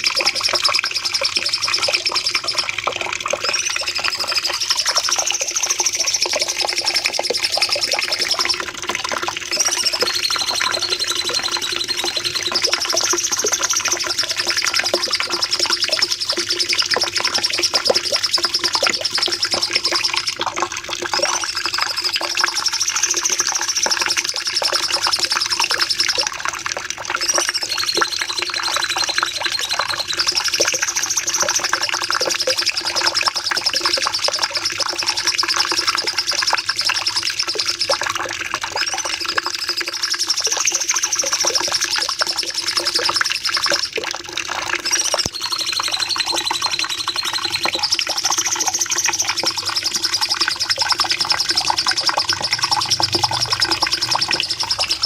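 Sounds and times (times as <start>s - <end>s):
bird high-pitched trilling song: 0.0s - 8.7s, 9.4s - 20.4s, 21.1s - 26.4s, 27.2s - 38.1s, 38.8s - 43.9s, 44.7s - 55.0s.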